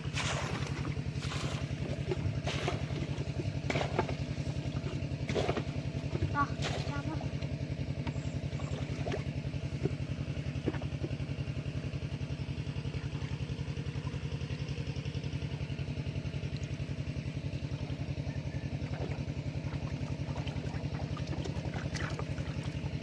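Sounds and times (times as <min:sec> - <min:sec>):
small engine chugging: 0:00.0 - 0:23.0.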